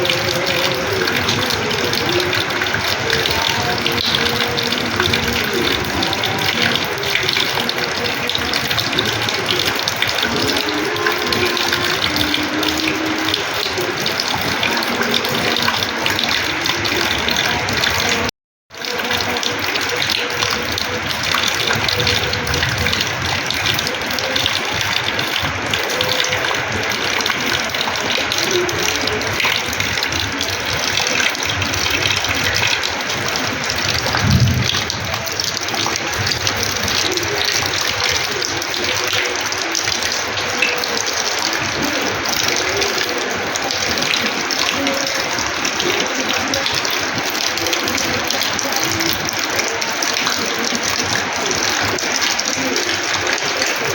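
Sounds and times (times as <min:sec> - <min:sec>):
heavy rain splashing on floor: 0:00.0 - 0:53.9.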